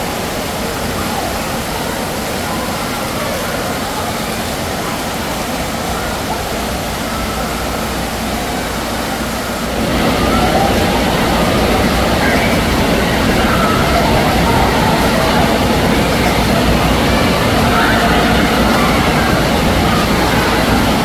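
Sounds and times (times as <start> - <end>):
crowd chatter: 0.0 - 21.0
water rushing and churning: 0.0 - 21.0.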